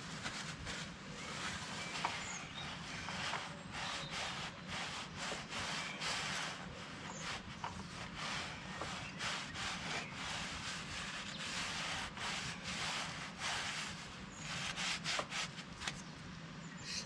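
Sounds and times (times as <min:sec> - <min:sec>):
hand rubbing strokes: 0:00.0 - 0:16.0.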